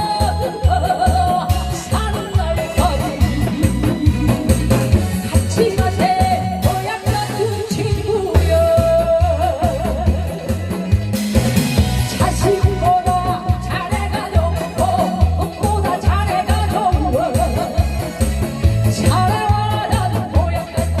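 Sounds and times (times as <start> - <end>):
person singing with vibrato: 0.0 - 11.0, 11.9 - 21.0
backing track with heavy bass beat: 0.0 - 21.0.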